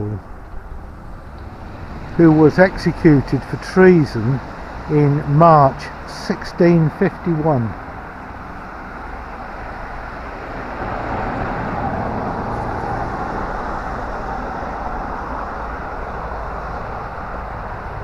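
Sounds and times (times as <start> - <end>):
vehicle passing: 0.0 - 18.0.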